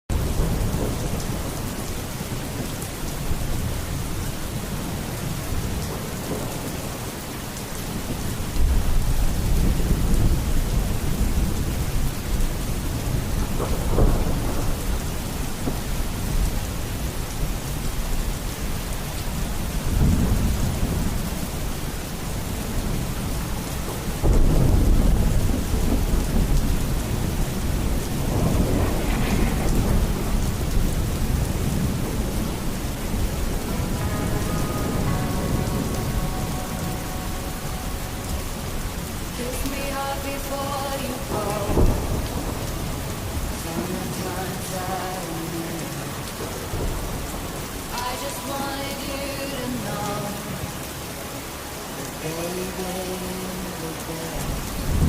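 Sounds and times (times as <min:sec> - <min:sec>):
steady rain: 0:00.0 - 0:55.0
rolling thunder: 0:00.1 - 0:48.0, 0:54.4 - 0:55.0.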